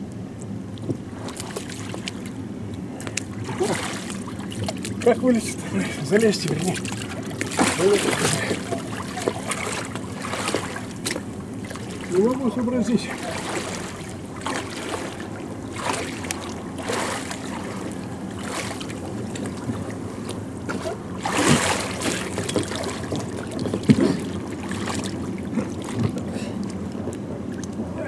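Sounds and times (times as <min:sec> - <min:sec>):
water splashing and sloshing: 0:00.1 - 0:28.0.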